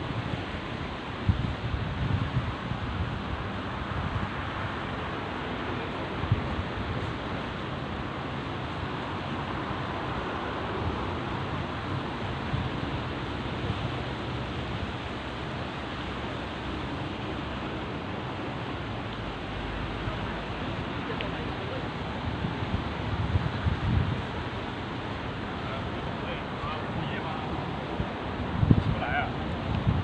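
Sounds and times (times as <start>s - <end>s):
sea surf: 0.0s - 30.0s
wind on microphone: 0.0s - 30.0s.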